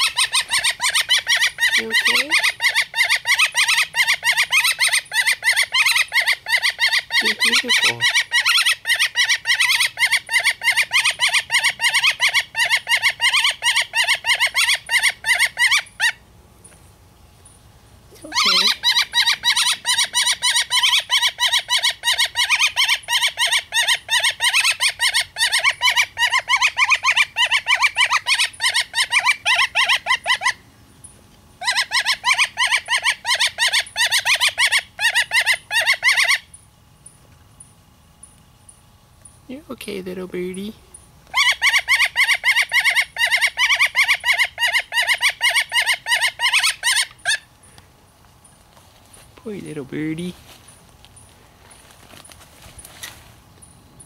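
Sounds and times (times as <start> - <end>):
woodpecker calling repeated notes: 0.0 - 52.4.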